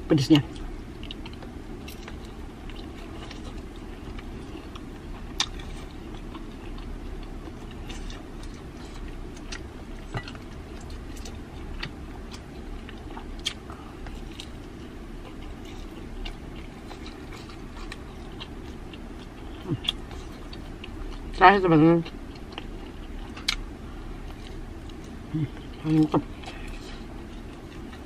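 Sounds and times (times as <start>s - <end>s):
low background hum: 0.0s - 28.0s
person chewing: 0.4s - 21.4s, 22.0s - 28.0s.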